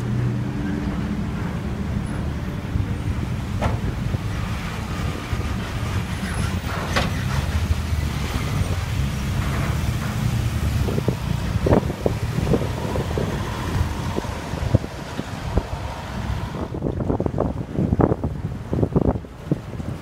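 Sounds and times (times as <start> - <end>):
car and lorry engines rumbling: 0.0 - 20.0.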